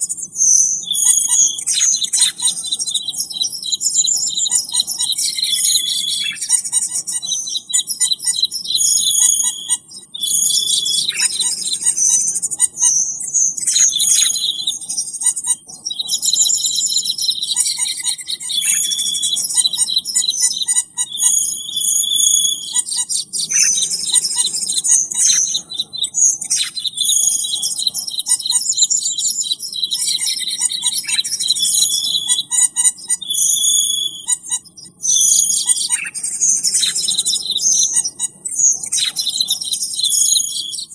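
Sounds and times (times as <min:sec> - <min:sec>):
birds chirping and whistling: 0:00.0 - 0:40.9.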